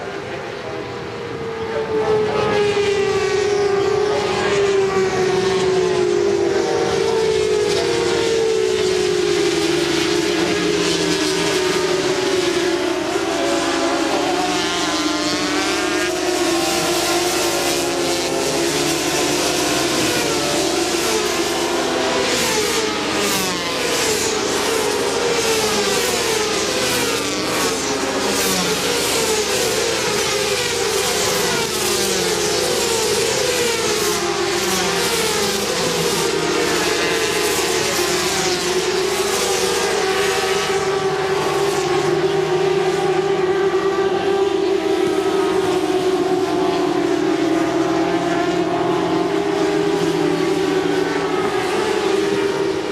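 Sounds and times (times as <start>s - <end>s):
racing motorcycle engines at high revs: 0.0s - 52.9s.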